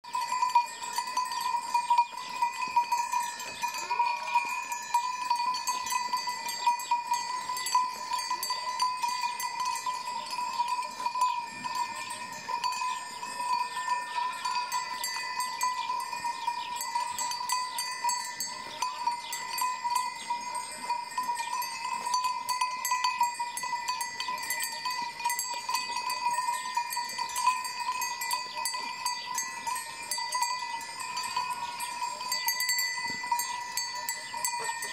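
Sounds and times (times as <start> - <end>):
sheep bells clanking: 0.0 - 34.9.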